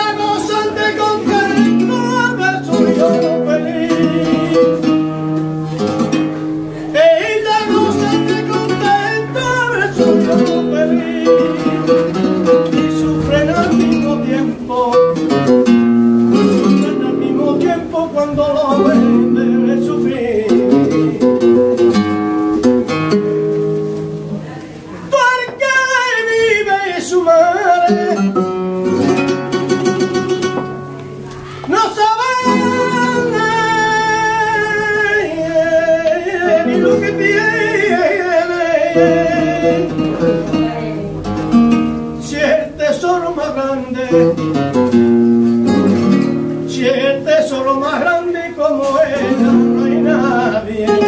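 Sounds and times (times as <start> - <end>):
man singing wordless notes: 0.0 - 23.5, 25.0 - 51.0
acoustic guitar plucking and strumming: 0.0 - 51.0.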